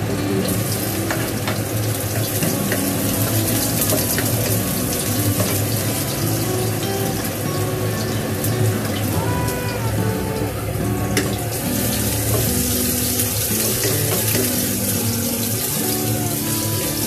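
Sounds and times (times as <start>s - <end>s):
garlic sizzling in hot oil: 0.4s - 10.4s, 11.1s - 17.0s.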